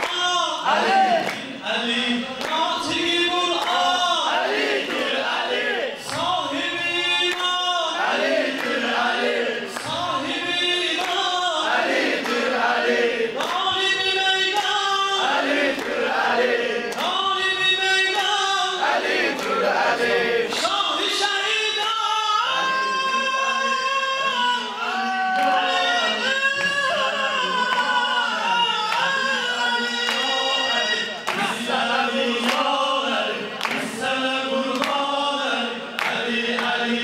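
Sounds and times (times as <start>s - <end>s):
men singing devotional chant: 0.0s - 37.0s.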